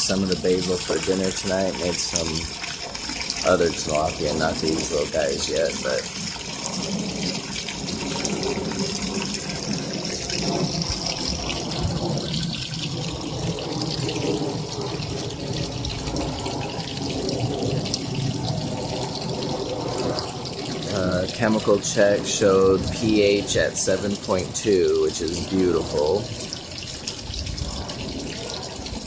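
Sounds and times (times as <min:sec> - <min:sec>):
running and splashing water: 0:00.0 - 0:29.0.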